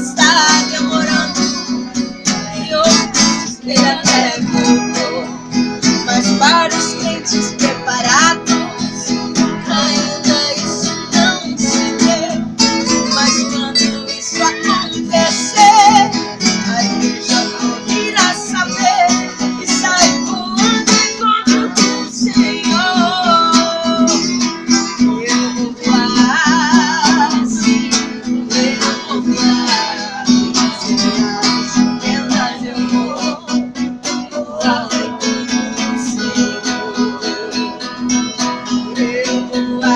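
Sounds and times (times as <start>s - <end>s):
acoustic guitar strumming: 0.0s - 39.9s
viola caipira: 0.0s - 39.9s.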